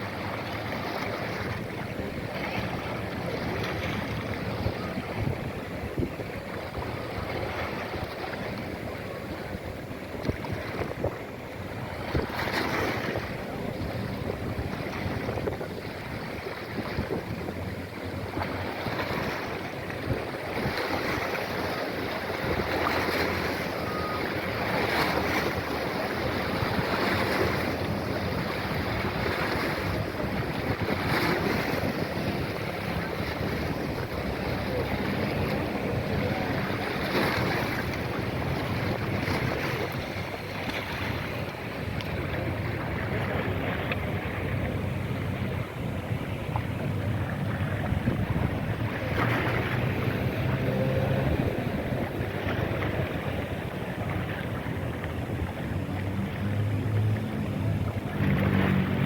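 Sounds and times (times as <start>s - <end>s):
waves washing: 0.0s - 59.0s
wind buffeting microphone: 0.0s - 59.0s.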